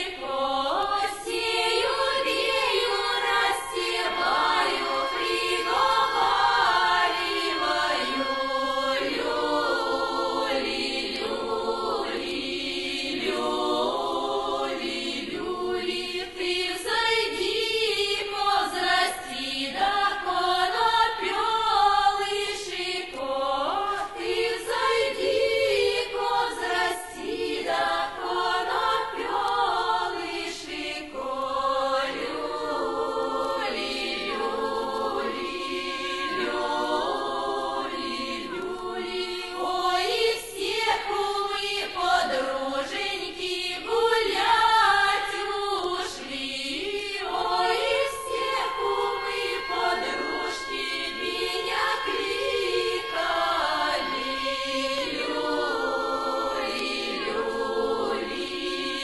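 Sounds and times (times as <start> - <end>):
folk choir singing: 0.0 - 59.0.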